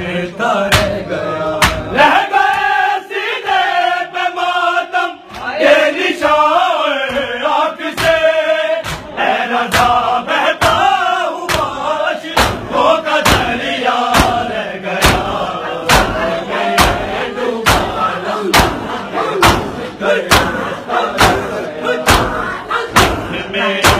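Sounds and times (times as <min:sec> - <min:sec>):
men chanting in unison: 0:00.0 - 0:23.9.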